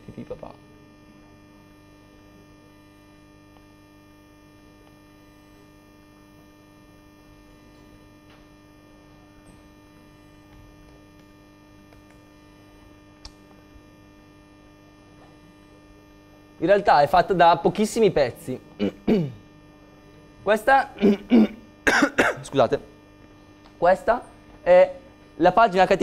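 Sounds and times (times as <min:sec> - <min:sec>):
low electrical mains hum: 0:00.0 - 0:26.0.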